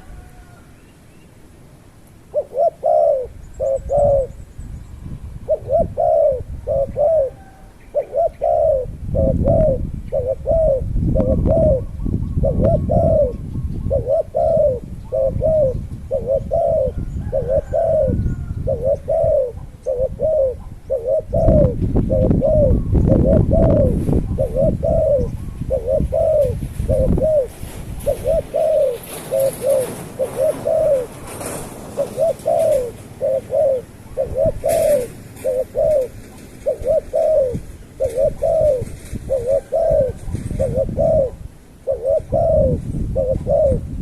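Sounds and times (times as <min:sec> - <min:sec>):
bird cooing: 0:00.0 - 0:00.8, 0:02.2 - 0:44.0.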